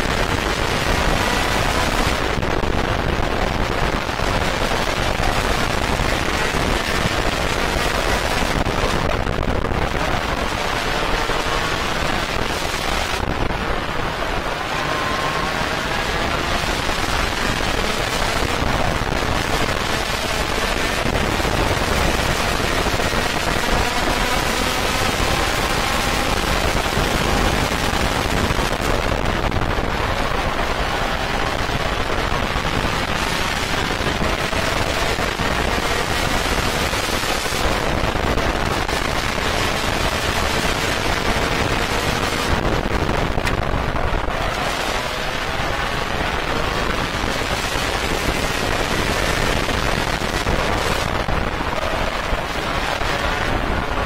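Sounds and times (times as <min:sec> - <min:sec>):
kart engine accelerating: 0:00.0 - 0:54.0
wind rush on microphone: 0:00.0 - 0:54.0.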